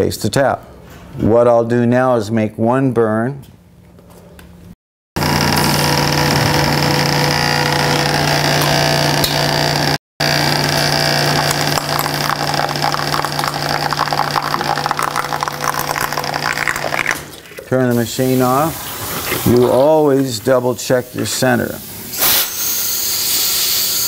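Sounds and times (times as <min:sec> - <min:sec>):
loud electrical hum: 0:03.3 - 0:24.0.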